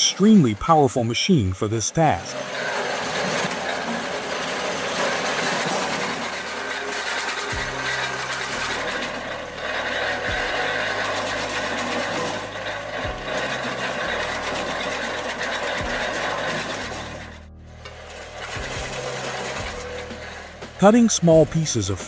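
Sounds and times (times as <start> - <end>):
tractor engine: 0.0 - 22.0.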